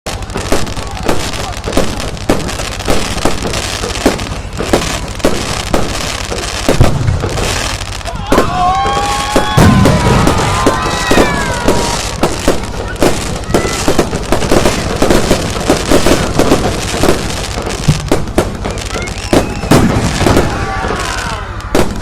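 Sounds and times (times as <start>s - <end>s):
firework bangs and pops: 0.0s - 22.0s
deep firework booms: 0.1s - 22.0s
whistling firework shells: 0.1s - 22.0s.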